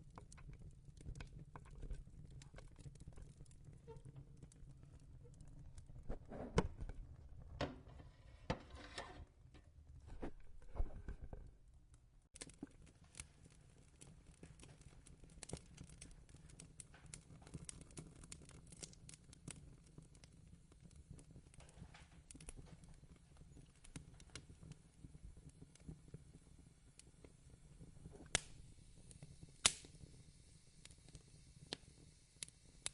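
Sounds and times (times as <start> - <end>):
fireplace crackling: 0.0 - 32.9.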